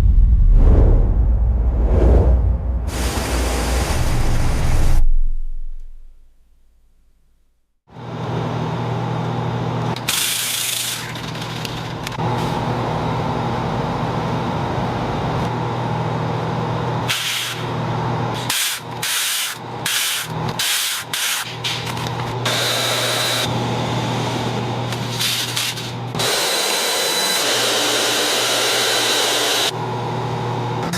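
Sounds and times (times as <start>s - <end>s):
mechanical hum: 2.6s - 30.9s.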